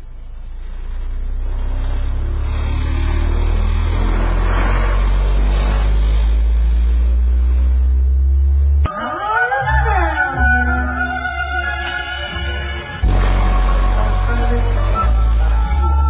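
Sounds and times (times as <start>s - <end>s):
deep bass tone from subwoofer: 0.0s - 16.0s
rattly buzz: 0.0s - 16.0s.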